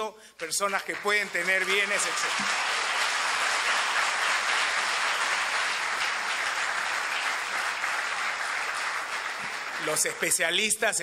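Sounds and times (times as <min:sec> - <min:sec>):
audience applauding: 0:00.4 - 0:11.0.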